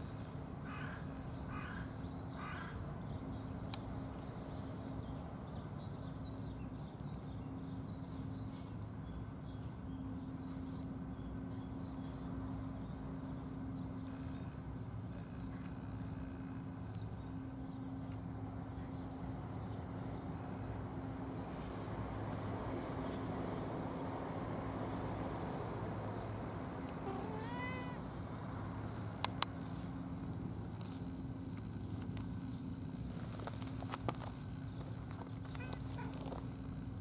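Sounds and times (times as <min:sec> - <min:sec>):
small birds chirping: 0:00.0 - 0:24.2, 0:26.2 - 0:28.1, 0:28.8 - 0:37.0
low mechanical hum: 0:00.0 - 0:37.0.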